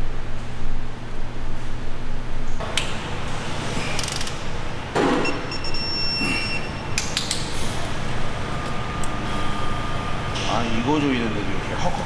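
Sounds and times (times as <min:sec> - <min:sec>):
low workshop rumble: 0:00.0 - 0:12.0.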